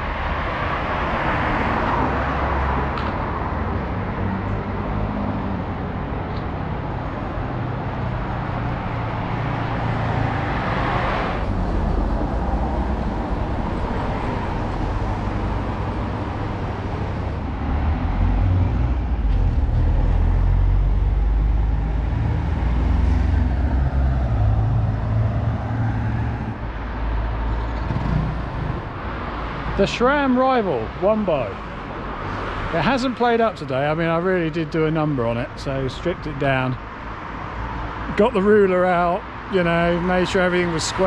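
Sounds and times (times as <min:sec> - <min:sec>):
road traffic: 0:00.0 - 0:41.0.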